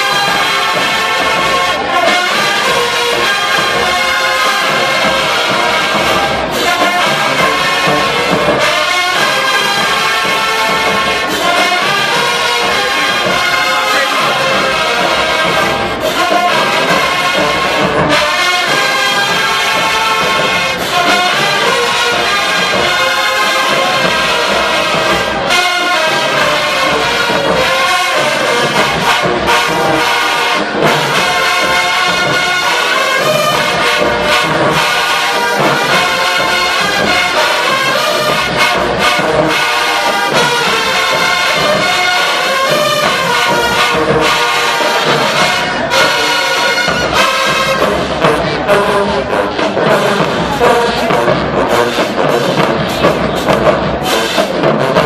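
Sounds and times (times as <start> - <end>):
brass section holding chords: 0.0 - 55.0
percussion hits: 0.0 - 55.0.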